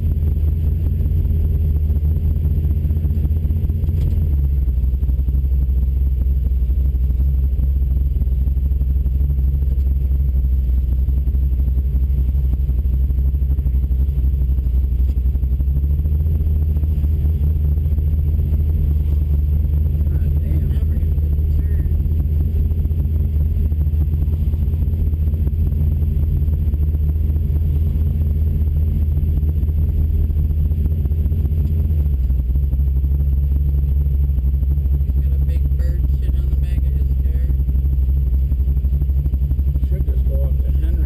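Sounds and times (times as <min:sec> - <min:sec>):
engine and exhaust drone: 0:00.0 - 0:41.0.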